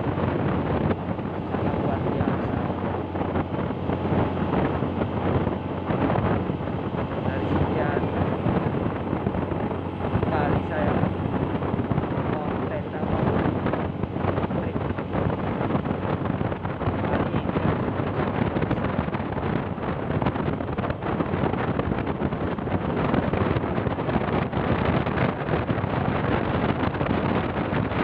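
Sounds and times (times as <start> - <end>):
moving vehicle running: 0.0 - 28.0
wind buffeting microphone: 0.0 - 28.0.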